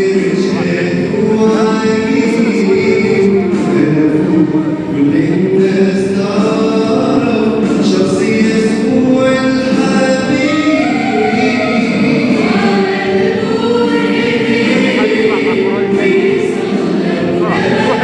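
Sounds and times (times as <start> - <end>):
mixed choir singing a hymn: 0.0 - 18.0.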